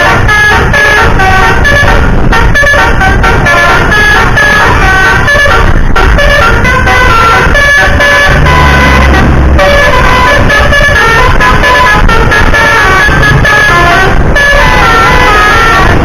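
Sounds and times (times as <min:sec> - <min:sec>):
low engine rumble: 0:00.0 - 0:16.0
musical air horn tune: 0:00.0 - 0:16.0.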